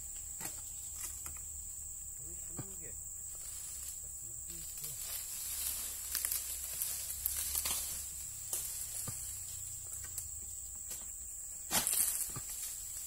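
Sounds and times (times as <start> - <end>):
dry palm fronds rustling: 0.0 - 13.0
high insect drone: 0.0 - 13.0.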